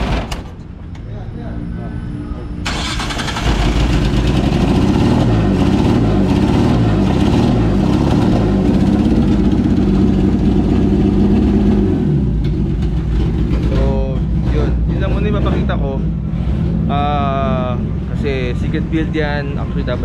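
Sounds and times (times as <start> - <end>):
car engine revving: 2.2 - 20.0.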